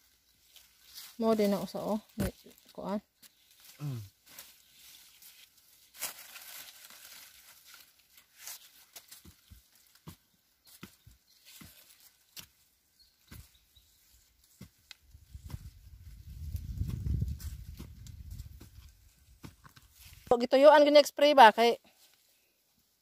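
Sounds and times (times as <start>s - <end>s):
soil crumbling and small knocks: 0.0s - 20.6s.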